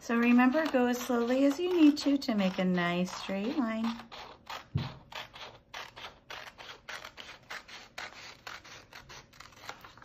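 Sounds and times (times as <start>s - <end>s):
scissors snipping paper: 0.0s - 10.0s.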